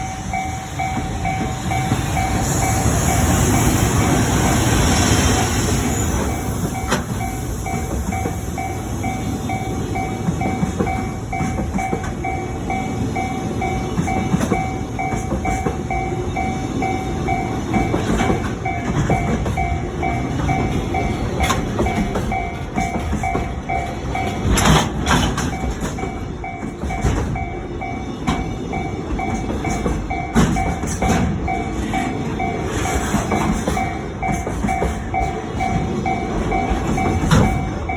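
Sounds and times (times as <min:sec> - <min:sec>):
crossing warning bell ringing: 0:00.0 - 0:37.9
train wheels rumbling: 0:00.0 - 0:37.9
wheels clacking over rail joints: 0:00.0 - 0:37.9.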